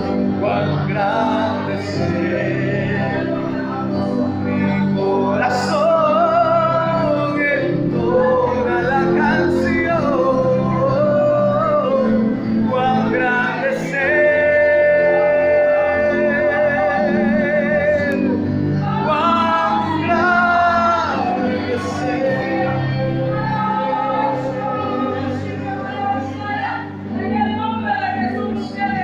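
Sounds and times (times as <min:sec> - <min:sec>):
low musical accompaniment: 0:00.0 - 0:29.0
person singing with vibrato: 0:00.0 - 0:29.0.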